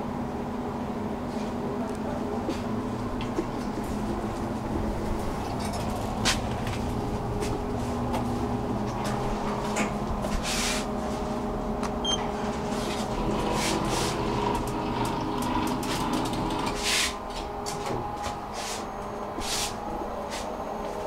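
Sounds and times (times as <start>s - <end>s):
elevator machinery hum: 0.0s - 21.0s.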